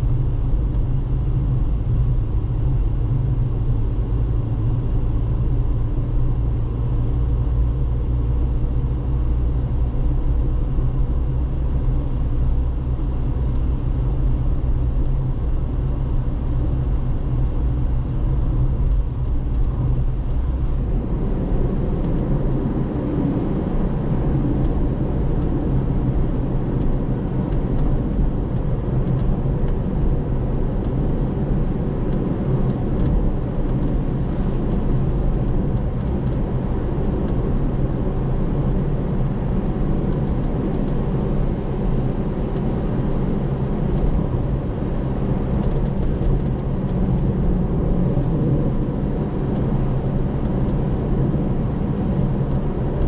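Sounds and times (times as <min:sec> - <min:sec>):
car road noise rumble: 0:00.0 - 0:53.0.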